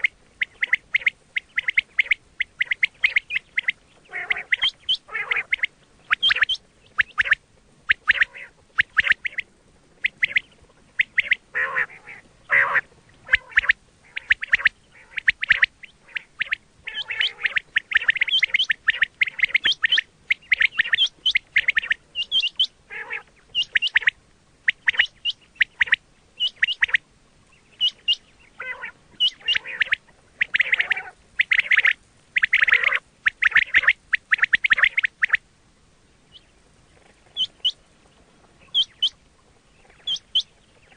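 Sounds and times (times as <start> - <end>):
quails chirping: 0.0 - 35.4, 36.3 - 40.9.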